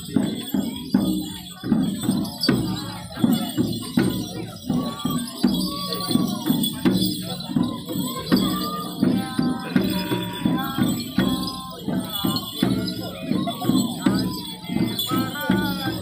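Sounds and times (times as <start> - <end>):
jingling: 0.0 - 16.0
steady drum beat: 0.0 - 16.0.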